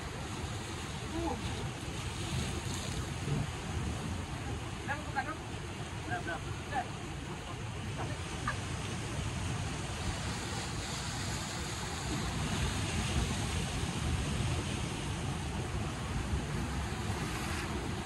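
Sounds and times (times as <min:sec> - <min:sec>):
surf washing over rocks: 0:00.0 - 0:18.0
wind rumbling on microphone: 0:00.0 - 0:18.0.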